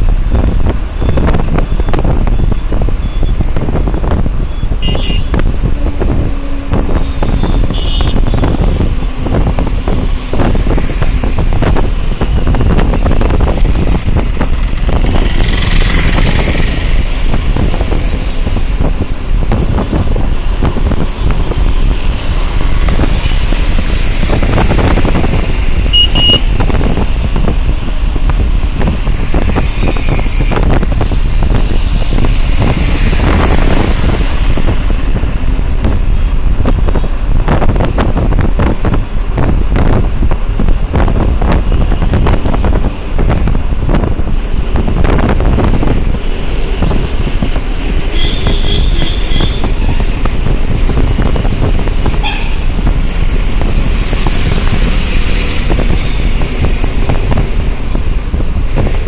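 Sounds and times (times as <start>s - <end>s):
road traffic rumble: 0.0s - 59.0s
wind buffeting microphone: 0.0s - 59.0s.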